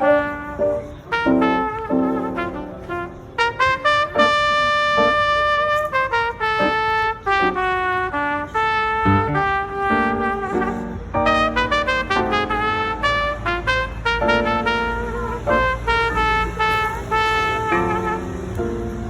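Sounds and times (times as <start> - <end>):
brass melody: 0.0 - 19.0.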